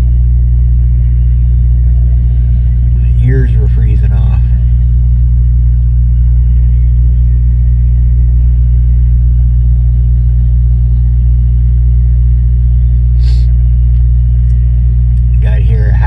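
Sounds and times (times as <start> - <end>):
car engine drone: 0.0 - 16.0
road rumble: 0.0 - 16.0.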